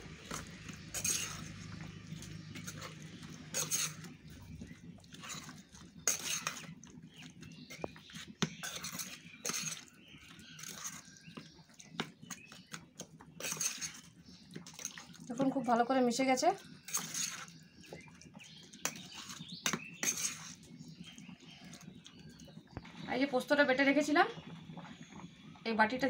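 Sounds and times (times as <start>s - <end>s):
wet stirring of paste: 0.0s - 22.8s.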